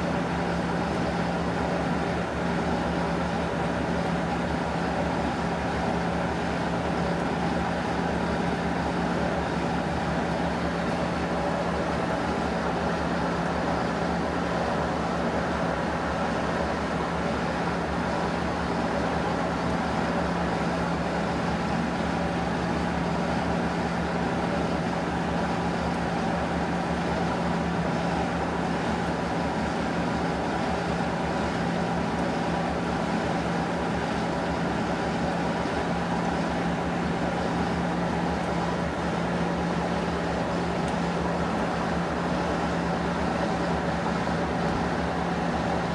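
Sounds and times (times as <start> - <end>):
washing machine running: 0.1 - 45.9.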